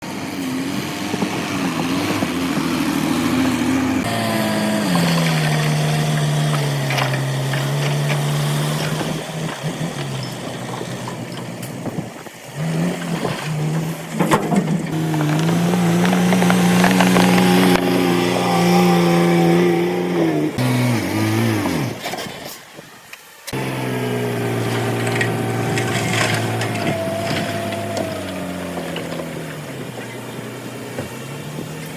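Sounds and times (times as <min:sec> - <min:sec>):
heavy diesel engines revving: 0:00.0 - 0:22.5, 0:23.5 - 0:31.9.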